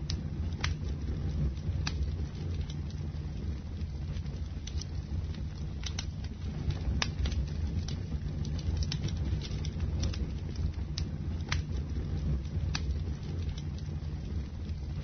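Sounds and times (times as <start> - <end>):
bonfire flames rumbling: 0.0 - 15.0
burning wood crackling and popping: 0.0 - 15.0.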